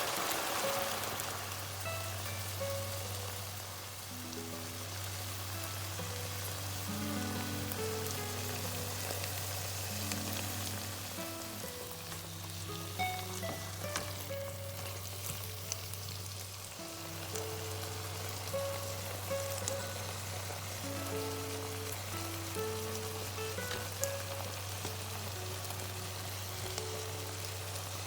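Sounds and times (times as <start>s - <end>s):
food frying in a pan: 0.0s - 28.0s
soft background music: 0.0s - 28.0s.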